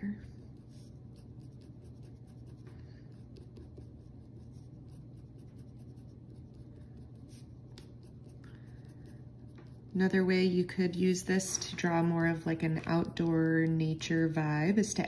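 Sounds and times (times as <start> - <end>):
low steady hum: 0.0 - 15.0
felt-tip pen scratching on paper: 0.2 - 14.4.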